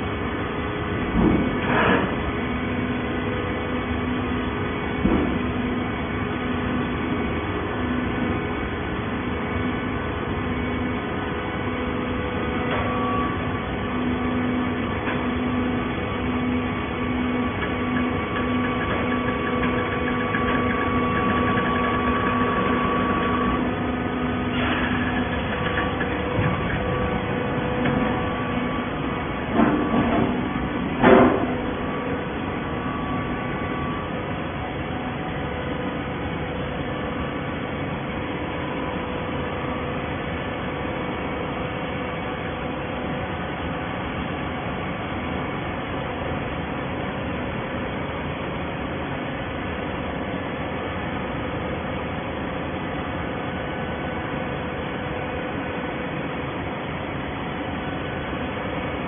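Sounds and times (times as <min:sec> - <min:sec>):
baler machine hum: 0:00.0 - 0:59.0.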